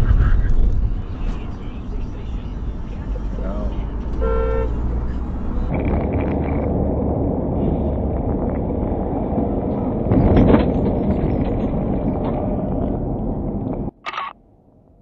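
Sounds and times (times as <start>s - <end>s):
car road noise from inside: 0.0s - 14.0s.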